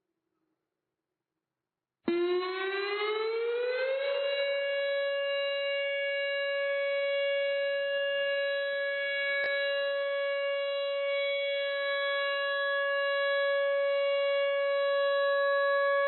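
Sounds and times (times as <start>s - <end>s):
air raid siren: 2.1s - 16.0s.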